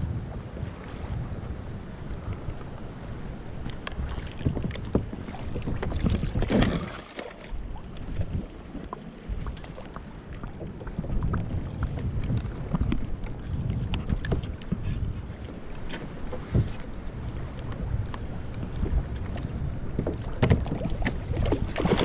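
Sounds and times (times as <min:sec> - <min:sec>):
wind buffeting microphone: 0:00.0 - 0:07.0, 0:07.6 - 0:22.0
water lapping against kayak hull: 0:00.0 - 0:22.0.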